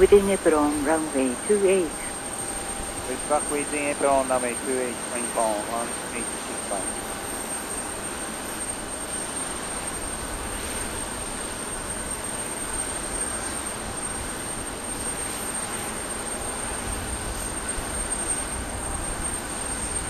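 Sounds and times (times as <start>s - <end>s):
jet engine whine and rumble: 0.0s - 20.0s.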